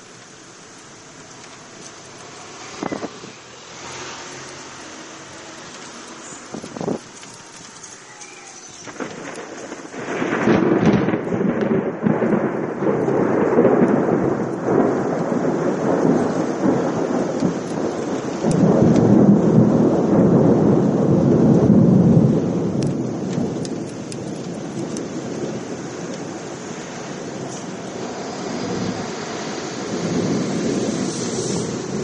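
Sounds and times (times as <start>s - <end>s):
rolling thunder: 5.6s - 32.0s.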